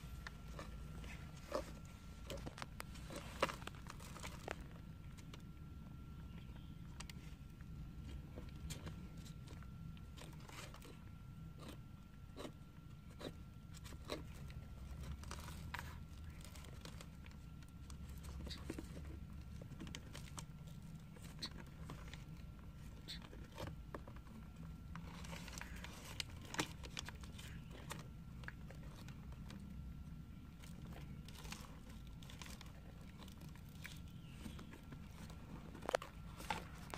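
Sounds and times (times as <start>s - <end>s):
tortoises crunching carrot: 0.0s - 36.9s.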